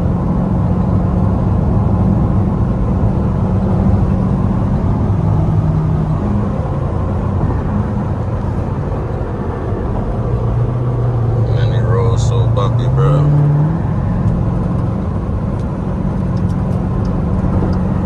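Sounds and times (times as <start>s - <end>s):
loud engine exhaust drone: 0.0s - 18.0s.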